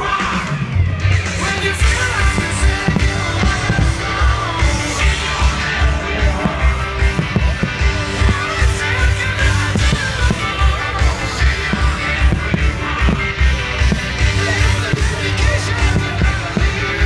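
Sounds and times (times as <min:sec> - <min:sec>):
loud rock music with singing: 0:00.0 - 0:17.0.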